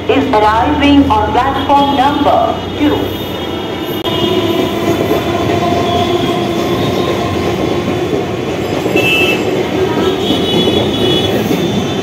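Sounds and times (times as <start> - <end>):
train hum: 0.0 - 12.0
train wheels rumbling on rail: 0.0 - 12.0.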